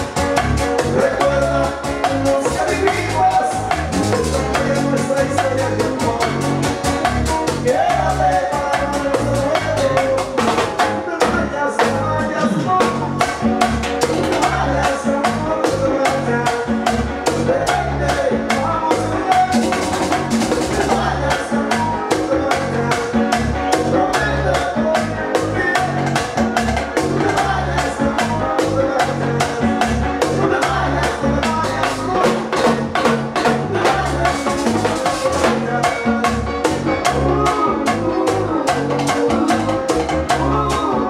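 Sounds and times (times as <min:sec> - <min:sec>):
live latin band playing: 0:00.0 - 0:41.0
man singing: 0:00.0 - 0:41.0
pulsing bass: 0:00.0 - 0:41.0.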